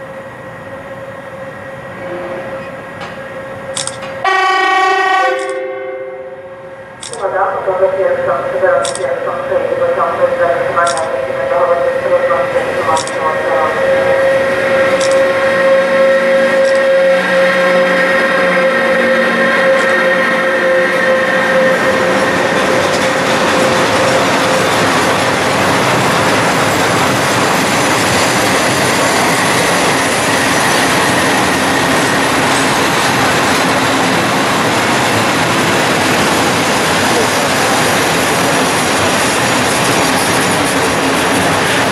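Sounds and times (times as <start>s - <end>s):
train wheels on rail: 0.0s - 6.0s, 6.6s - 41.9s
electric locomotive whine: 0.0s - 41.9s.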